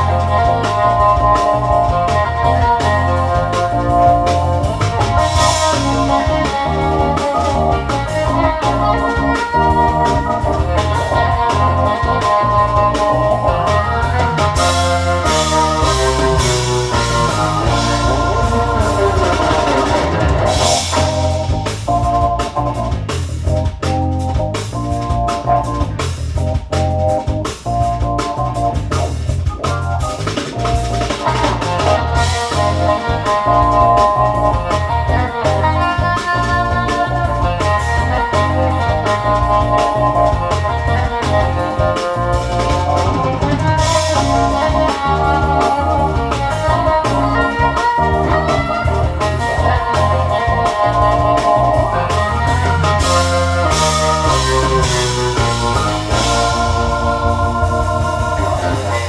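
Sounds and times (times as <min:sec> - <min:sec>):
rock music with organ and drums: 0:00.0 - 0:59.0.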